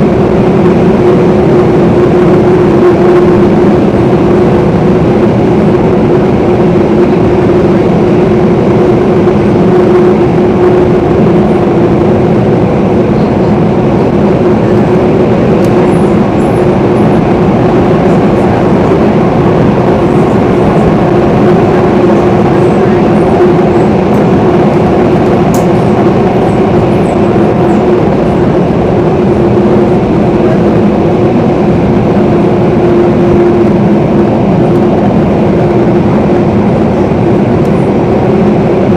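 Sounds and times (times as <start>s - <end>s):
train motor hum: 0.0s - 38.9s
train wheels rumbling on rail: 0.0s - 38.9s.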